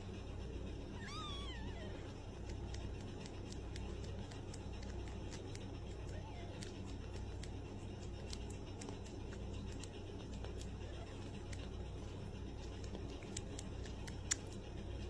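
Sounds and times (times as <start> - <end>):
low steady hum: 0.0 - 15.0
cat eating clicks: 2.0 - 15.0.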